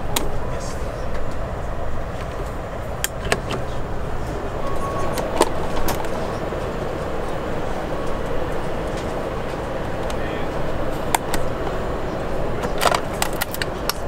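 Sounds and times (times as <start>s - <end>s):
aircraft cabin rumble and hiss: 0.0s - 14.0s.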